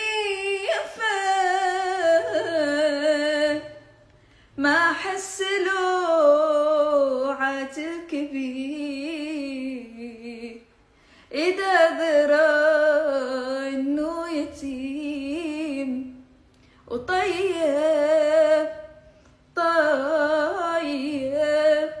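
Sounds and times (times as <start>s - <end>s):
woman singing unaccompanied: 0.0s - 4.0s, 4.6s - 10.7s, 11.3s - 16.3s, 16.9s - 22.0s.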